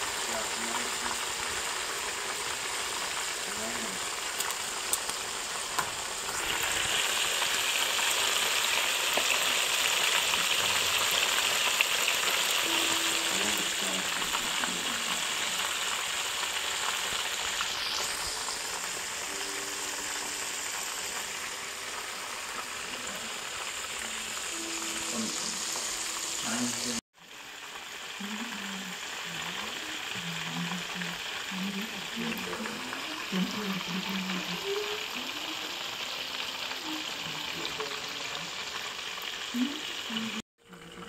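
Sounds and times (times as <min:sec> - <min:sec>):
chicken deep-frying in oil: 0:00.0 - 0:41.0.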